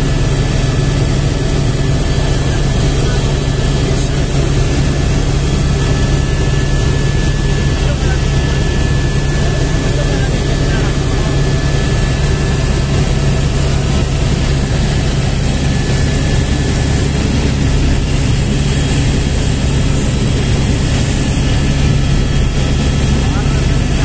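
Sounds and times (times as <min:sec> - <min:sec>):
helicopter engine and rotor noise: 0:00.0 - 0:24.0.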